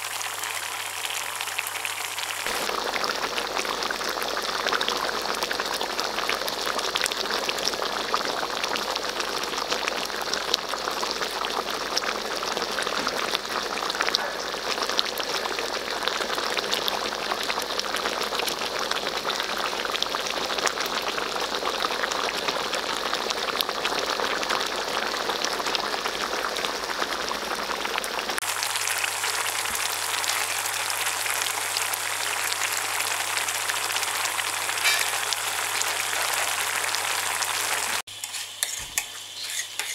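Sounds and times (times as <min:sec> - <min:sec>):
stew bubbling and popping: 0:00.0 - 0:39.9.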